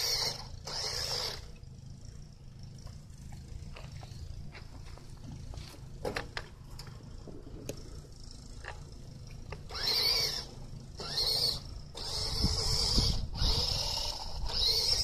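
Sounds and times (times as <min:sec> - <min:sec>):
toy car electric motor whining: 0:00.0 - 0:04.1, 0:05.5 - 0:15.0.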